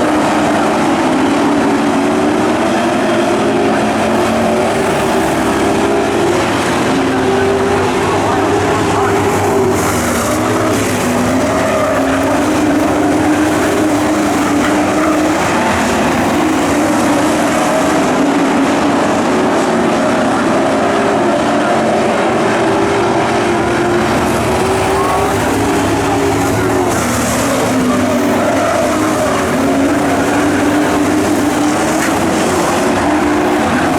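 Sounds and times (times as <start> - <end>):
racing truck engines droning: 0.0 - 33.9.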